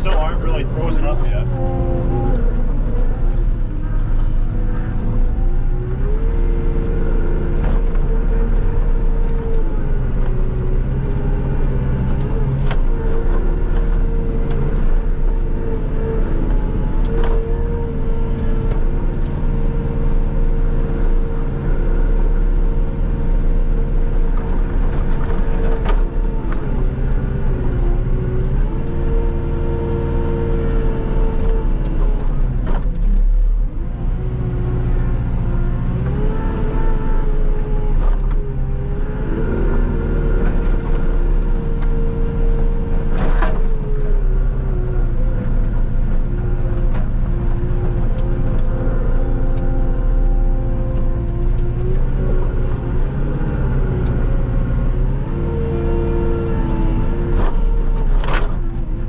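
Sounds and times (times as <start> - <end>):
loader engine running under load: 0.0 - 59.0.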